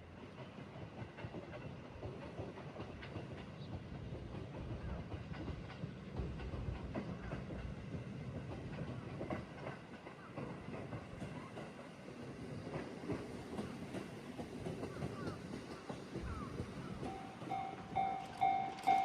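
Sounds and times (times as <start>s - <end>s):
train rumbling: 0.0s - 19.0s
wheels clacking on rails: 0.0s - 19.0s.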